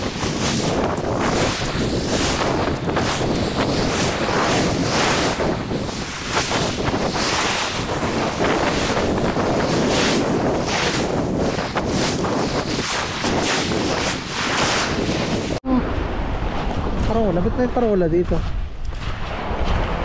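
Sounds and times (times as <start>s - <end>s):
surf breaking on stony beach: 0.0s - 20.0s
wind buffeting microphone: 0.0s - 20.0s.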